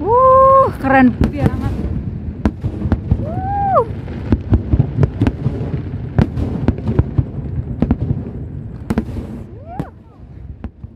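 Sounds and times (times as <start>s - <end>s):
fireworks bangs: 0.0s - 10.9s
low rumble of detonations: 0.0s - 10.9s.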